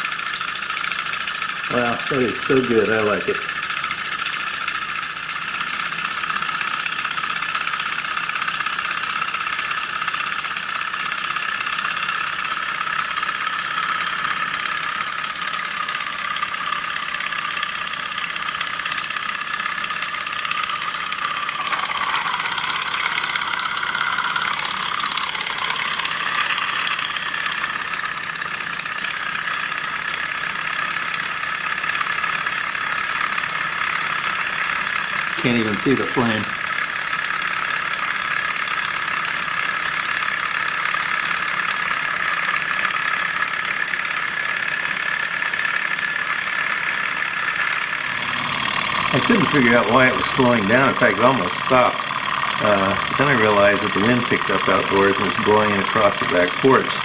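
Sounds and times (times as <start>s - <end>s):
stirling engine mechanical whir: 0.0s - 36.8s, 43.8s - 57.0s.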